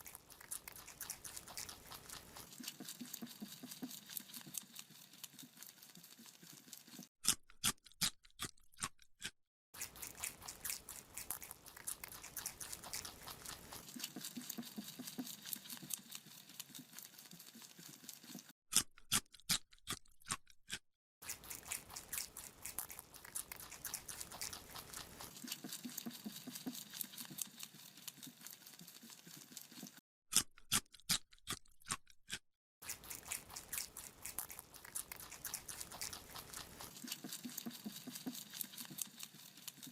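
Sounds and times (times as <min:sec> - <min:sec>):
rabbit chewing crunchily: 0:00.0 - 0:39.9.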